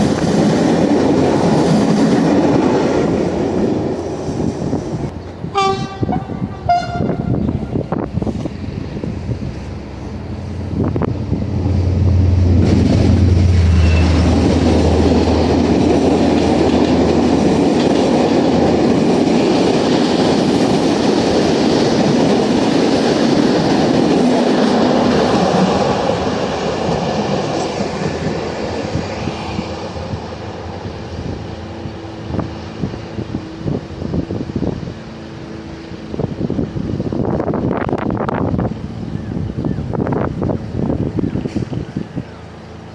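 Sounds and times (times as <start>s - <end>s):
locomotive engine drone: 0.0s - 42.9s
train coaches rolling by: 0.0s - 42.9s.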